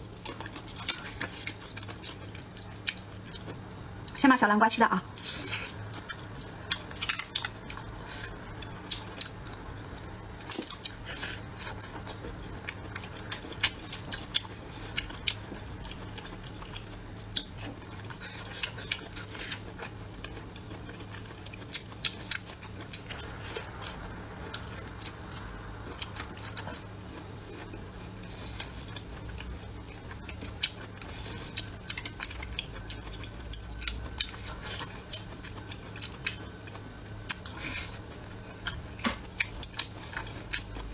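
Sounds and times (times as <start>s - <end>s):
low steady hum: 0.0s - 40.9s
crunchy chewing: 0.2s - 4.2s, 5.1s - 40.9s.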